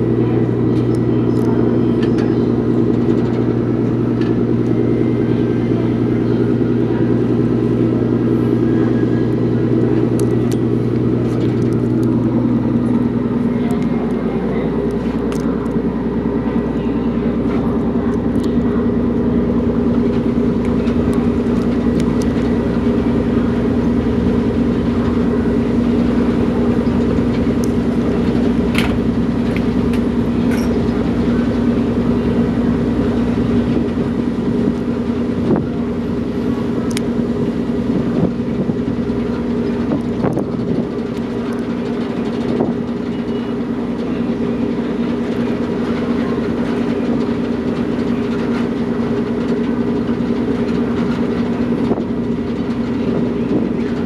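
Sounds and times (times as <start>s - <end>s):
ferry engines droning: 0.0s - 54.0s.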